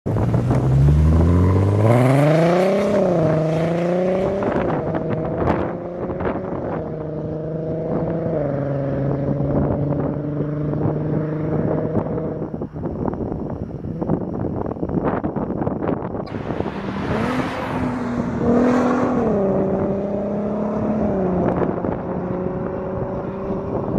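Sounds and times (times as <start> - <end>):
car engine revving: 0.1 - 12.6, 16.3 - 23.9.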